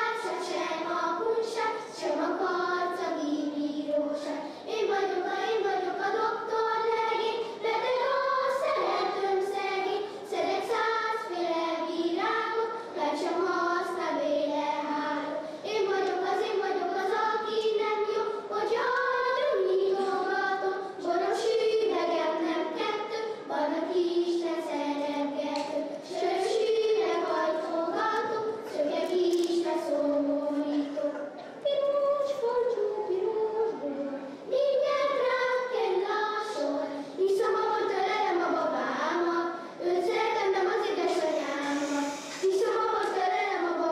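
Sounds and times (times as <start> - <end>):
children singing unaccompanied: 0.0 - 43.9.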